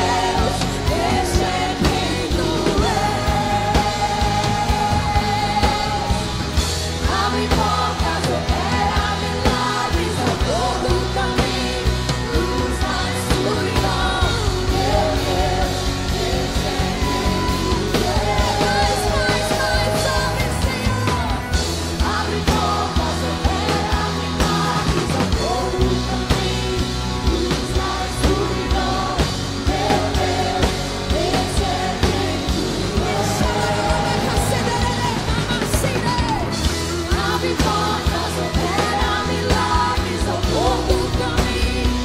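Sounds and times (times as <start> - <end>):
drum kit beat: 0.0 - 42.0
group of singers singing: 0.0 - 42.0
guitars: 0.0 - 42.0
keyboard: 0.0 - 42.0.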